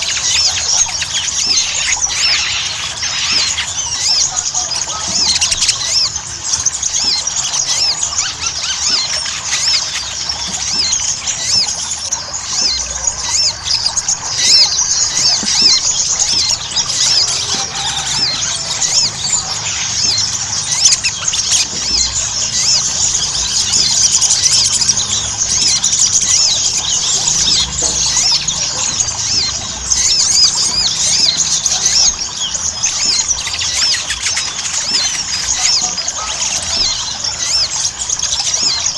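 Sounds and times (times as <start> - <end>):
bird chirping and twittering: 0.0 - 38.9.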